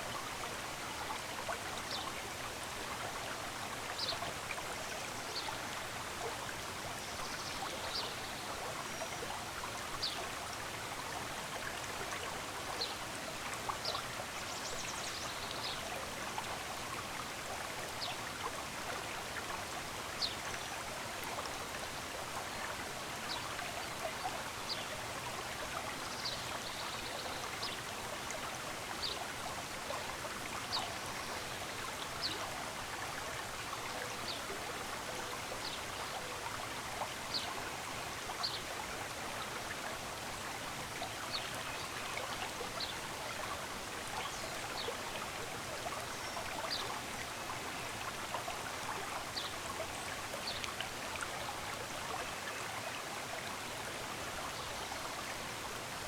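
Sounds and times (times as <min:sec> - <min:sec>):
small stream running: 0:00.0 - 0:56.0.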